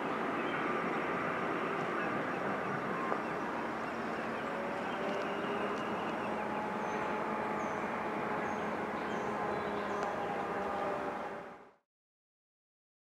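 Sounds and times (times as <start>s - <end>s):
distant train rumble: 0.0s - 11.6s.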